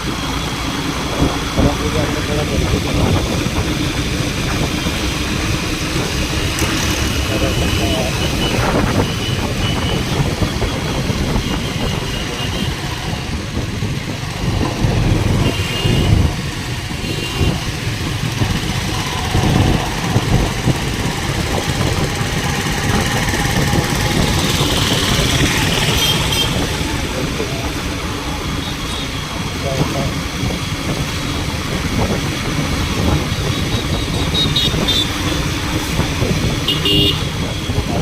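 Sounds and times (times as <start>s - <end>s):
vehicle engine and road noise: 0.0s - 38.0s.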